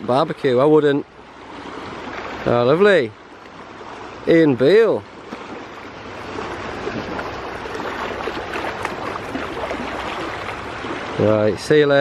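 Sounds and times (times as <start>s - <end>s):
sea water lapping: 0.0s - 12.0s
small water splashes: 1.3s - 11.4s.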